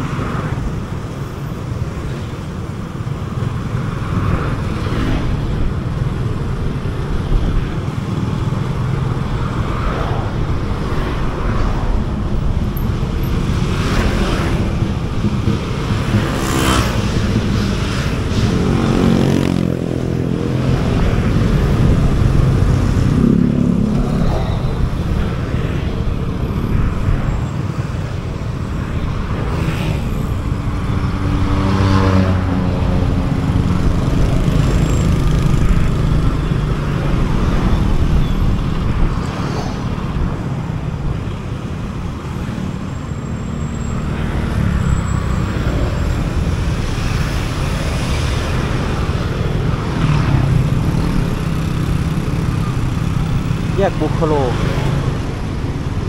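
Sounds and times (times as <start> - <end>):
motorcycle engine and road rumble: 0.0 - 56.0
surrounding traffic: 0.0 - 56.0.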